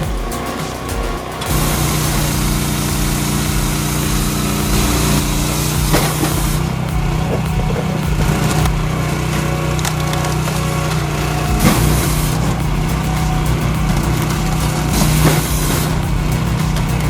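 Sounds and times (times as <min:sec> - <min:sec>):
machine engine running: 0:00.0 - 0:17.0.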